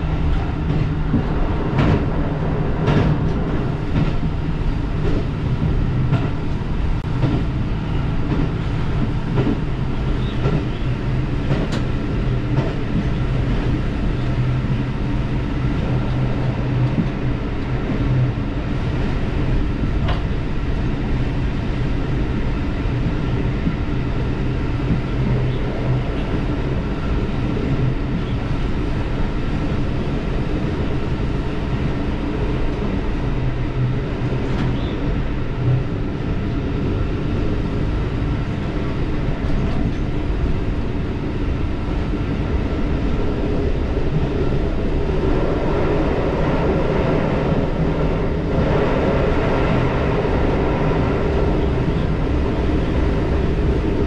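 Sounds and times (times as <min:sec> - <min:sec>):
railcar rumbling: 0:00.0 - 0:54.0.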